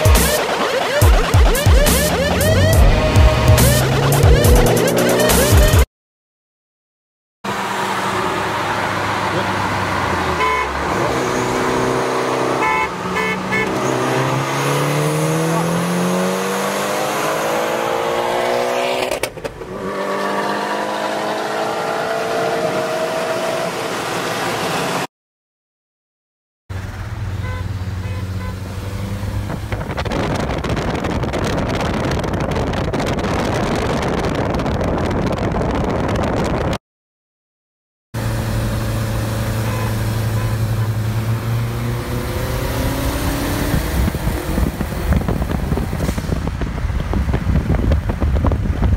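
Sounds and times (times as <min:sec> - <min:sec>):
car engine accelerating: 0:00.0 - 0:05.8, 0:07.5 - 0:25.1, 0:26.7 - 0:36.7, 0:38.2 - 0:48.9.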